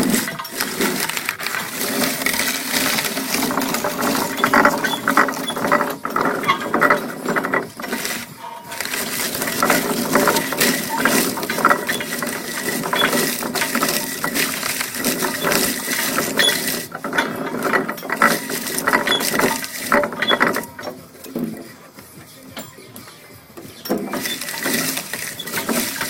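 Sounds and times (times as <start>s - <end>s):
fruit crusher smashing apples: 0.0s - 22.8s, 23.5s - 26.0s.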